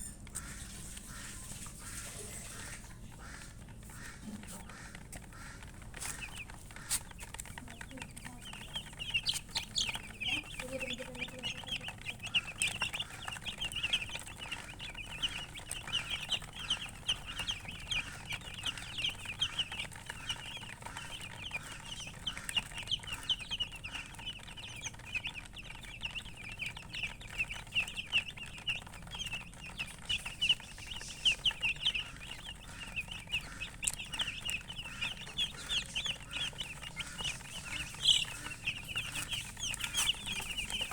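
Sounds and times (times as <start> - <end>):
baby chicks peeping: 0.0 - 40.9.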